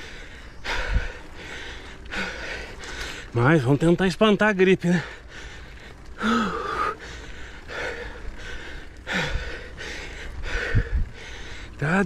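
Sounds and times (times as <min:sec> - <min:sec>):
man panting and gasping: 0:00.0 - 0:03.3, 0:04.9 - 0:11.8.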